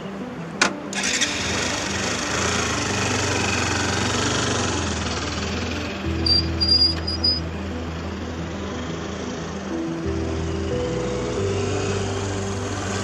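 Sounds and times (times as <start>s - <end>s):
motorcycle engine running: 1.0s - 13.0s.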